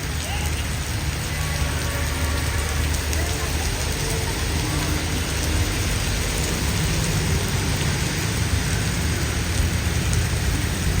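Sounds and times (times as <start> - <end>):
heavy rain falling: 0.0 - 11.0
raindrop ticks: 0.0 - 11.0
deep low rumble: 0.8 - 11.0.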